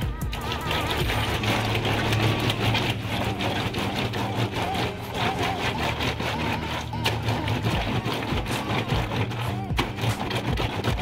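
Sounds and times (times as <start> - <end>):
wet clothes scrubbed by hand: 0.3 - 11.0.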